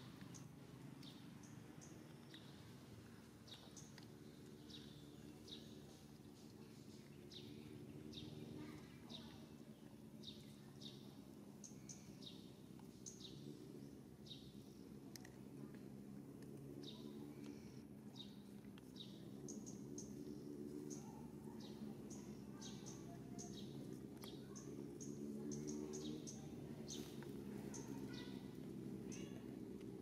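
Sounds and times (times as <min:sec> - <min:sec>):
small bird chirping: 0:00.0 - 0:15.3, 0:16.8 - 0:29.4
faint low hum: 0:00.0 - 0:30.0.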